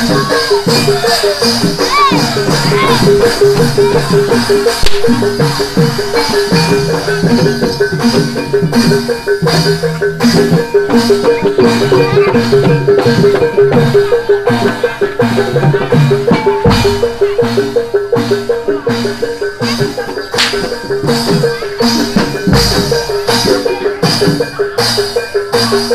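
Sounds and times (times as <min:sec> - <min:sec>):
gamelan drums and metal percussion: 0:00.0 - 0:25.9.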